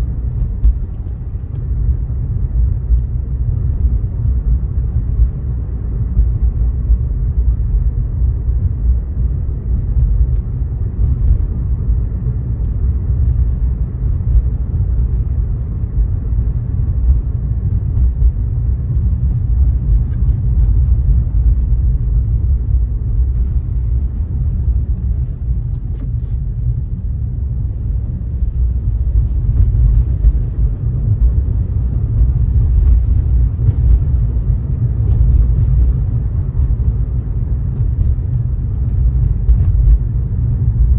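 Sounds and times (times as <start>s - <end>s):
car driving road noise: 0.0s - 40.9s.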